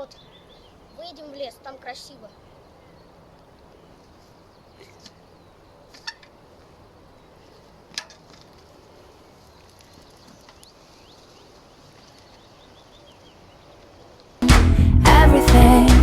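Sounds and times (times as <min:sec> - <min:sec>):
distant birds chirping: 0:00.0 - 0:14.4.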